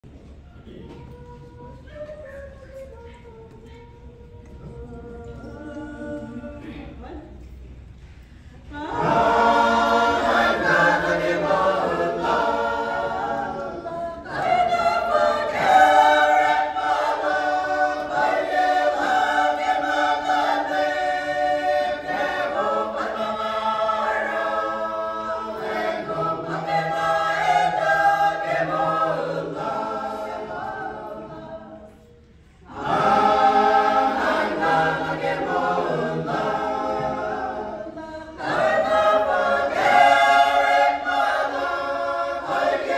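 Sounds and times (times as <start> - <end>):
mixed choir singing a hymn: 4.3 - 7.0, 8.5 - 42.9.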